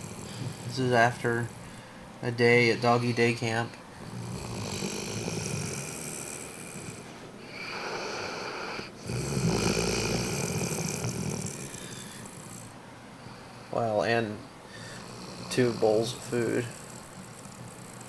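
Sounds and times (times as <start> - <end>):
dog snoring: 0.0 - 18.0.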